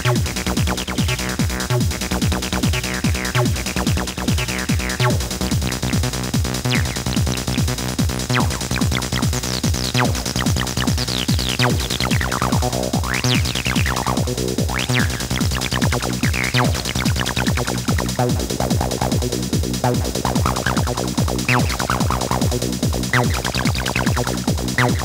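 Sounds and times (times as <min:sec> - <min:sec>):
kick drum beat: 0:00.0 - 0:25.0
sliding acid synth line: 0:00.0 - 0:25.0.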